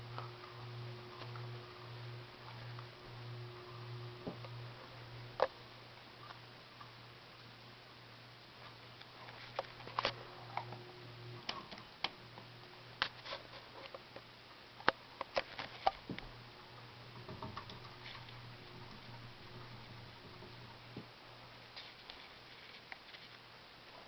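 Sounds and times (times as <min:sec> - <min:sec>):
ceiling fan motor humming: 0:00.0 - 0:24.0.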